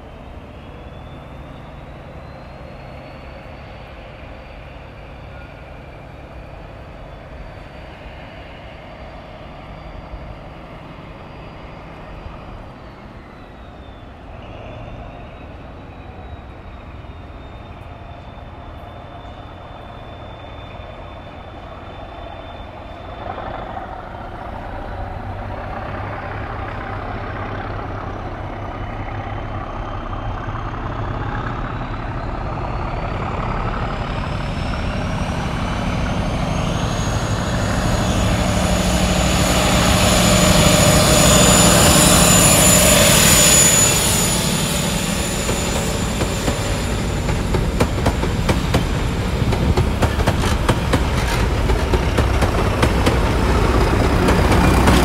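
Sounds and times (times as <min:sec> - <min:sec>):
diesel train engine passing: 0:00.0 - 0:55.0
high engine whine: 0:00.0 - 0:55.0
train coaches passing: 0:00.0 - 0:55.0.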